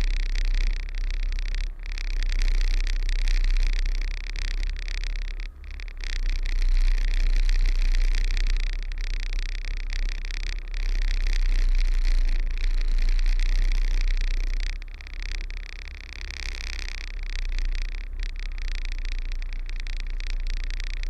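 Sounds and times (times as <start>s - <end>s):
constant hiss: 0.0s - 21.0s.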